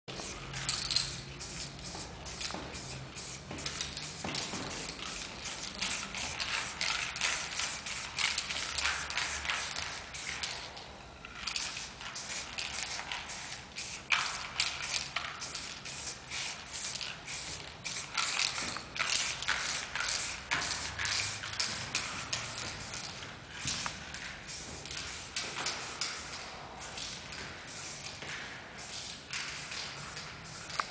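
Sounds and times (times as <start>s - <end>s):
spray paint cans hissing: 0.1s - 10.8s, 11.4s - 30.9s.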